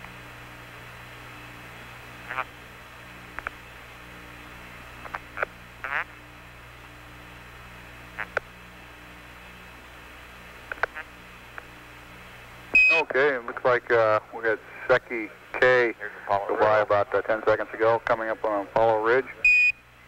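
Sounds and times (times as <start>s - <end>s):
radio hum low drone: 0.0s - 20.0s.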